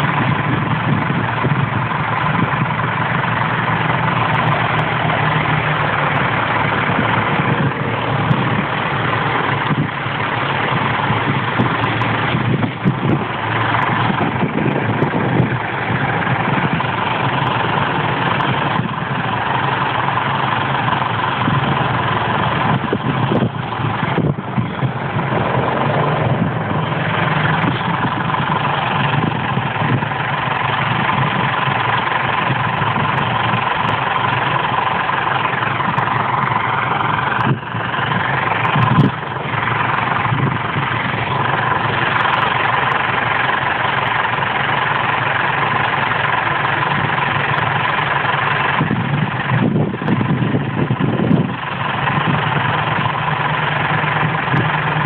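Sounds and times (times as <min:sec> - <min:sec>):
diesel tractor engines running: 0:00.0 - 0:55.0.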